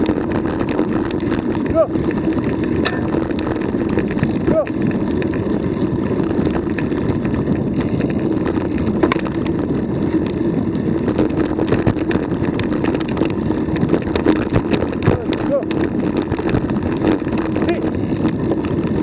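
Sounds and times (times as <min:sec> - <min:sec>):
bicycle tyres rumbling on trail: 0:00.0 - 0:19.0
small rattles and clicks: 0:00.0 - 0:19.0.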